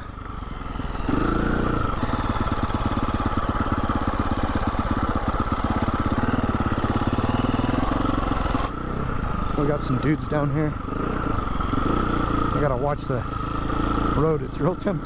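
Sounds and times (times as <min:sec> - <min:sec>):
dirt bike engine under throttle: 0:00.0 - 0:15.0.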